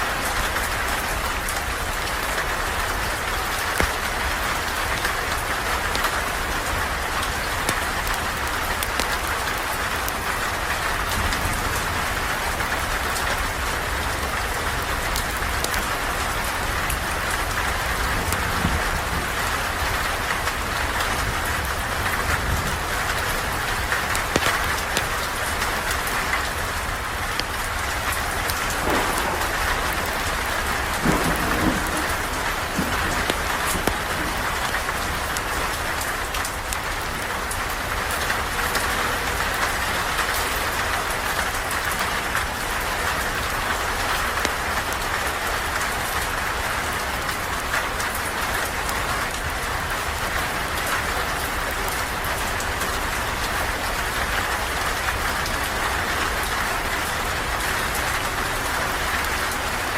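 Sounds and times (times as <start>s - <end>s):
sharp ticks of raindrops: 0.0s - 59.9s
steady rain falling: 0.0s - 59.9s.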